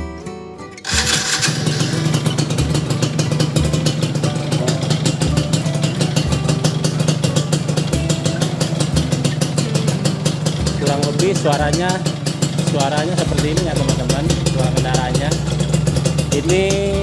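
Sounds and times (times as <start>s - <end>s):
guitar music: 0.0s - 17.0s
two-stroke engine idling: 0.8s - 17.0s.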